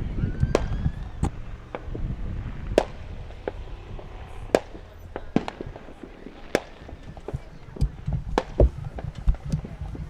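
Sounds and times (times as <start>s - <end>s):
firecrackers cracking: 0.0s - 10.0s.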